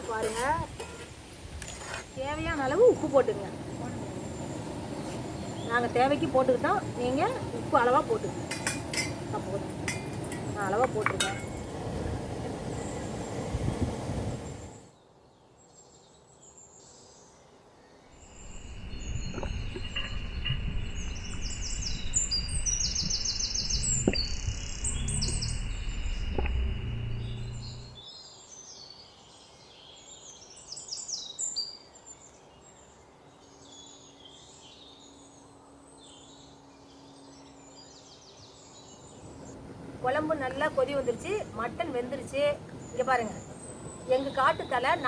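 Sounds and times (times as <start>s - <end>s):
small birds chirping: 1.7s - 17.4s, 18.0s - 45.0s.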